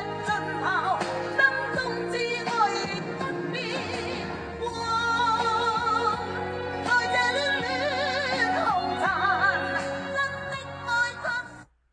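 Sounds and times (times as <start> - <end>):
pop ballad: 0.0 - 11.6.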